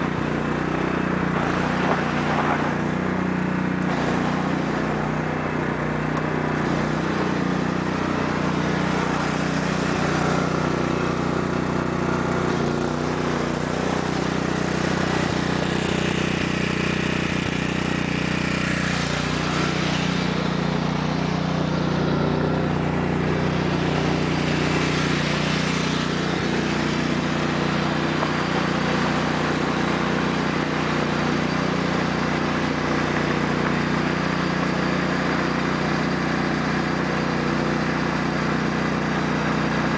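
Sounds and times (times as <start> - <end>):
lawn tractor engine running: 0.0 - 39.9
tires slipping on ice: 0.0 - 39.9.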